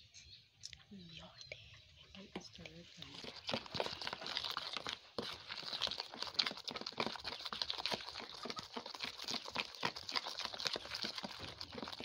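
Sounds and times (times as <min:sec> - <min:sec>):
batter squelching: 0:02.1 - 0:12.0
wooden spoon scraping bowl: 0:02.3 - 0:12.0.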